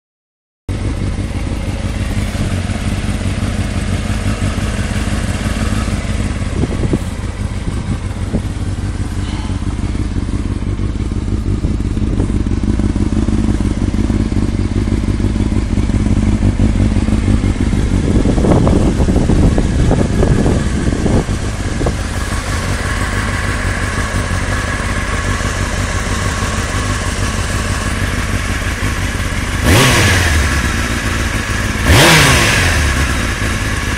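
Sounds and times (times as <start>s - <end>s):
motorcycle engine running: 0.7s - 33.9s
engine knocking: 0.8s - 33.9s.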